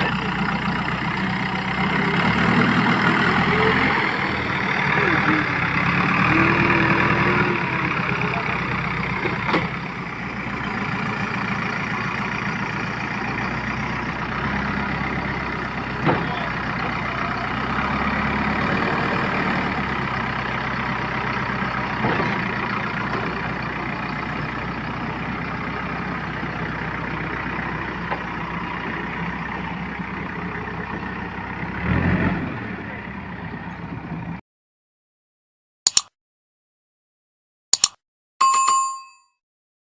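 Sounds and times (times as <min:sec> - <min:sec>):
diesel engine running: 0:00.0 - 0:34.4.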